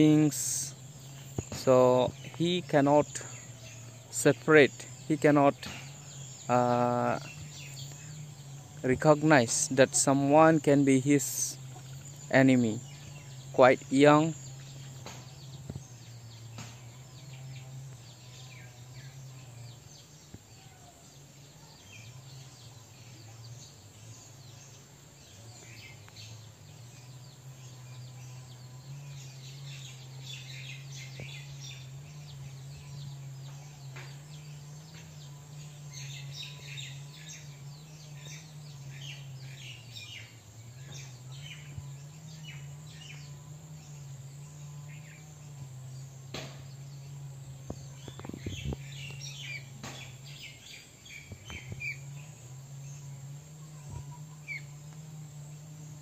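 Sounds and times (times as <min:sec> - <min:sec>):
birds chirping: 0:00.0 - 0:56.0
steady low hum: 0:00.0 - 0:56.0.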